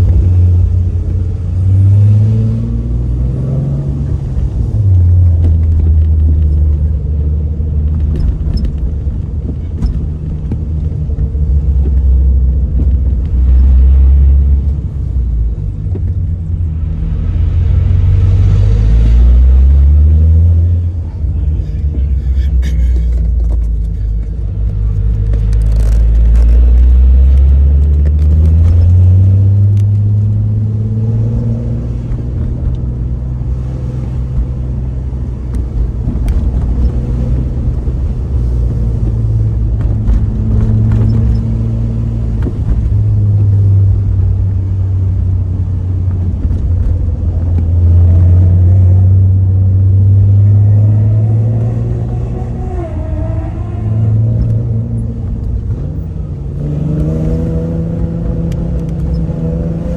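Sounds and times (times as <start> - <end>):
car engine and exhaust rumble: 0.0 - 59.9.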